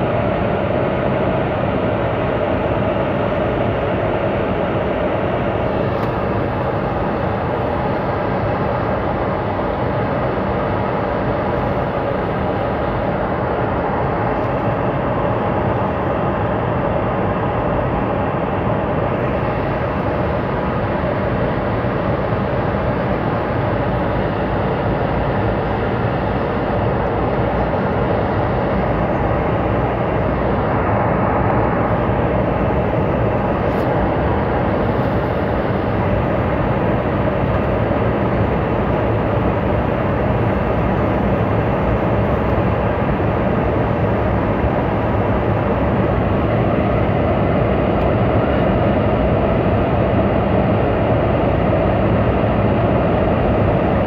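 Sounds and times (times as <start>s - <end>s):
jet engines roaring: 0.0s - 54.0s
rushing air: 0.0s - 54.0s.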